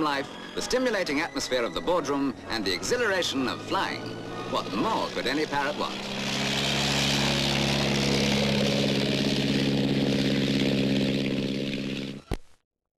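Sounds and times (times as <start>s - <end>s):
light aircraft piston engines droning: 0.0s - 12.2s.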